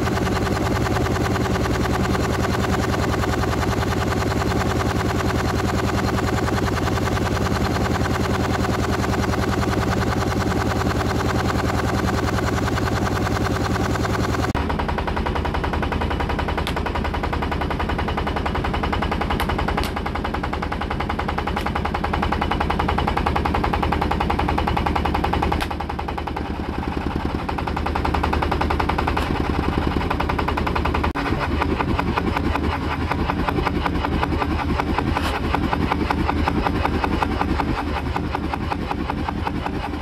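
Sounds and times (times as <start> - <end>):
road roller engine chugging: 0.0 - 40.0.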